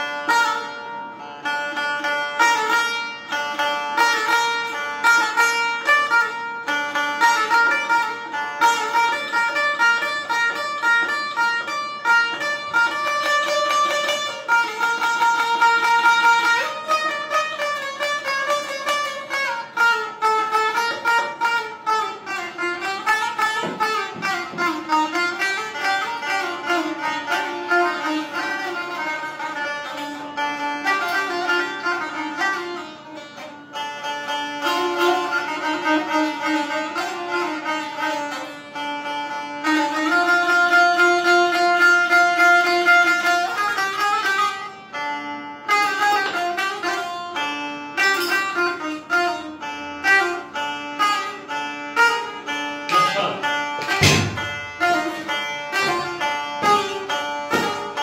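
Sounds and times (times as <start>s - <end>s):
long-necked lute played solo: 0.0s - 58.0s.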